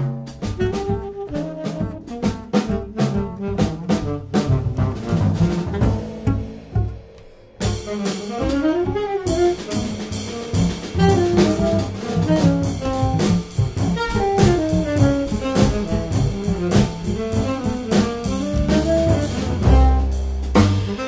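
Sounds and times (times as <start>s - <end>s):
double bass: 0.0s - 21.0s
drum kit: 0.0s - 21.0s
saxophone melody: 0.5s - 7.0s, 7.8s - 20.2s.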